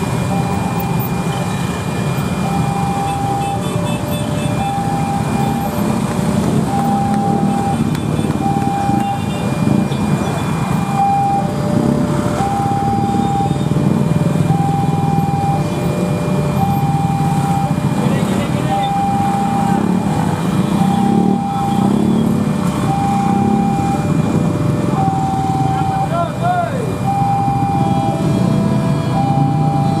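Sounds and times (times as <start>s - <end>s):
idling engines rumbling: 0.0s - 30.0s
two-tone crossing alarm: 0.0s - 30.0s.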